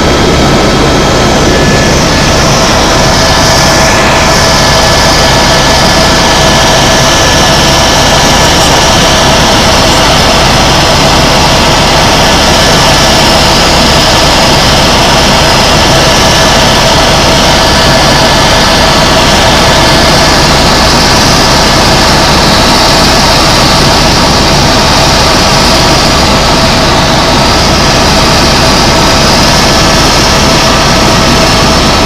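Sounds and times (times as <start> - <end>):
helicopter engine and rotor noise: 0.0 - 32.0
thin steady whine: 0.0 - 32.0.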